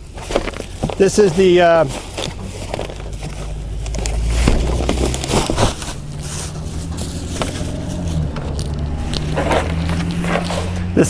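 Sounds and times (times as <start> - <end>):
plastic wrapping crinkling: 0.0 - 10.8
low engine rumble: 0.0 - 11.0.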